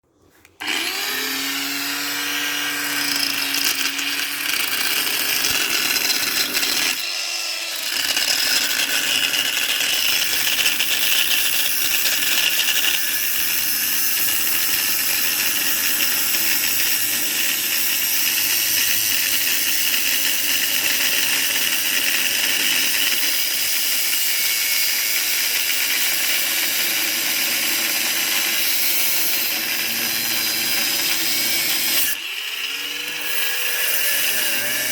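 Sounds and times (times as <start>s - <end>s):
power tool motor whirring: 0.5s - 34.9s.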